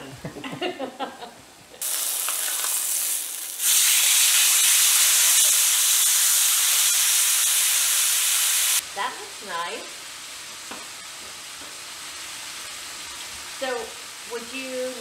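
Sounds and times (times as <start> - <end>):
steak sizzling on griddle: 1.8 - 15.0.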